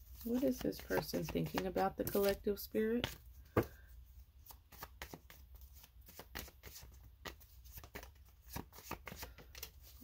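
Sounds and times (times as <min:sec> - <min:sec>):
cards being shuffled: 0:00.1 - 0:03.7, 0:04.4 - 0:10.0.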